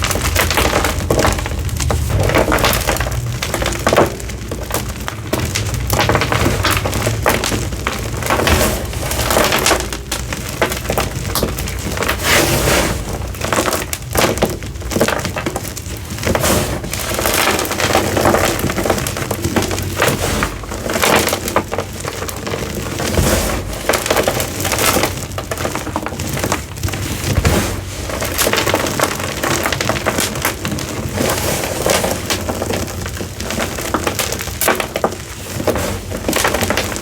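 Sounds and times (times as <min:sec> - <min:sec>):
chalk crackling being crushed: 0:00.0 - 0:37.0.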